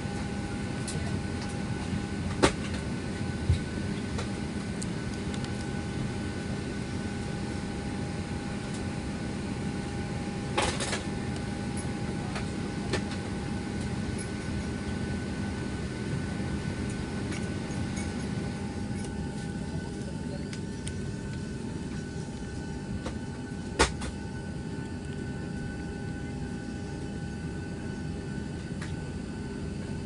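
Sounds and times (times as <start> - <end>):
air-conditioning hum in aircraft cabin: 0.0 - 30.0.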